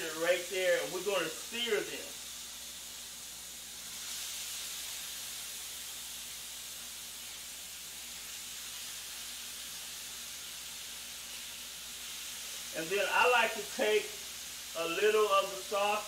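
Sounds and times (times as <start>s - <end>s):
meat sizzling on grill: 0.0s - 16.0s.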